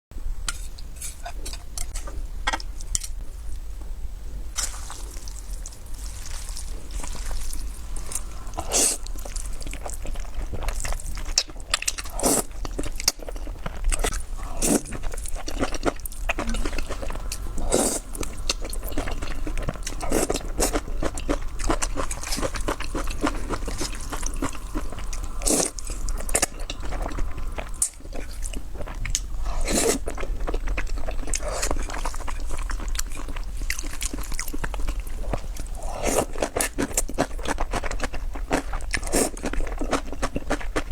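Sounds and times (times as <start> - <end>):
wet chewing clicks: 4.6 - 40.9.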